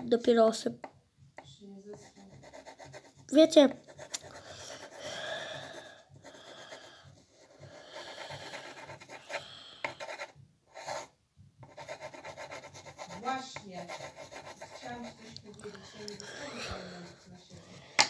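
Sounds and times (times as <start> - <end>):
pencil scratching on paper: 1.8 - 18.0.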